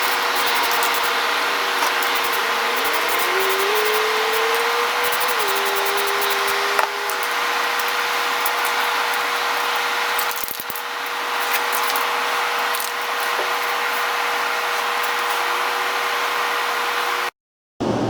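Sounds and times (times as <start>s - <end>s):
small power tool grinding: 0.0s - 16.3s.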